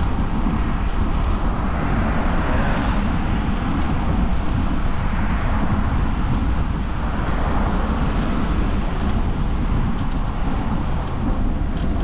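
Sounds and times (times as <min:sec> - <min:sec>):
road noise: 0:00.0 - 0:12.0
wind rush on microphone: 0:00.0 - 0:12.0.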